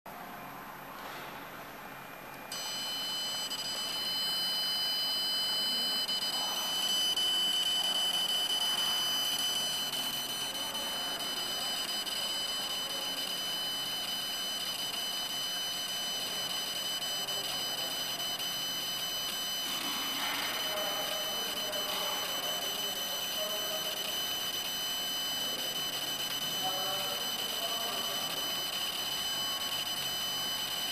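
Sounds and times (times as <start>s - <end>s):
laser engraver whine: 2.4s - 30.9s.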